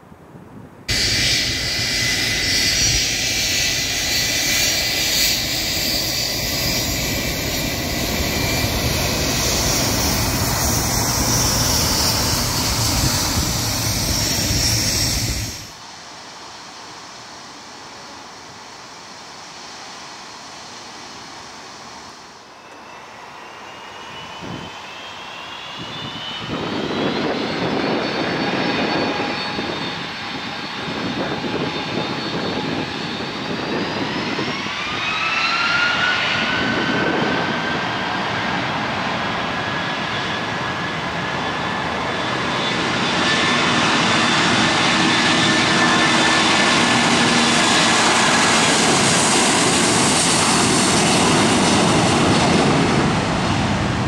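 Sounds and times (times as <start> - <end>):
steady rush of jet noise: 0.8 - 54.0
jet engines spooling up: 0.9 - 15.8, 21.7 - 54.0.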